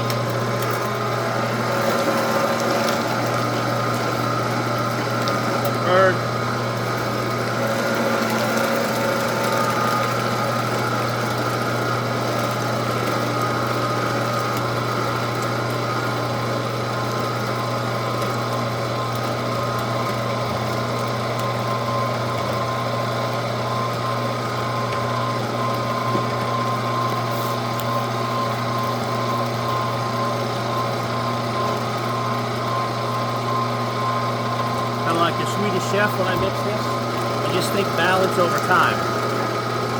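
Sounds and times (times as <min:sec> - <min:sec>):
meat grinder motor humming: 0:00.0 - 0:39.9.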